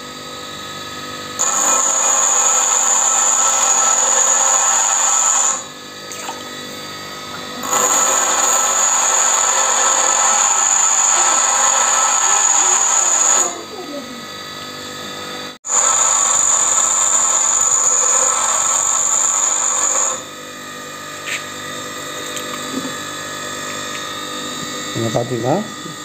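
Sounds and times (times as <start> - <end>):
grinder motor running: 0.0 - 26.0
bench grinder grinding tool bit: 1.2 - 26.0.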